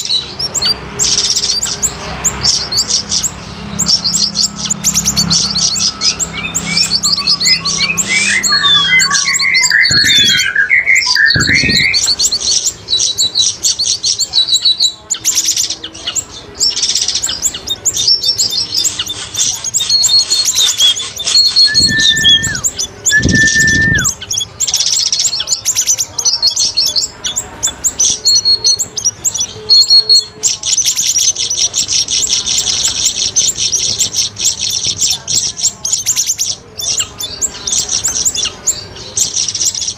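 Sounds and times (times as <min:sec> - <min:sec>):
bird whistles: 0:00.0 - 0:39.9
birds chirping and chattering: 0:00.0 - 0:39.9.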